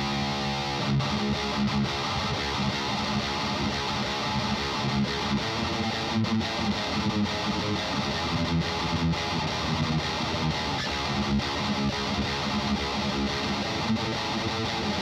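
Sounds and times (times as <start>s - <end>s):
distorted electric guitar riff: 0.0s - 15.0s.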